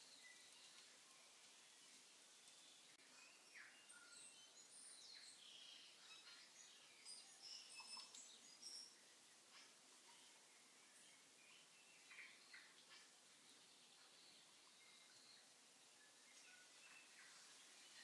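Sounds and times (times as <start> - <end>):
faint high chirps and ticks: 0.0 - 18.0.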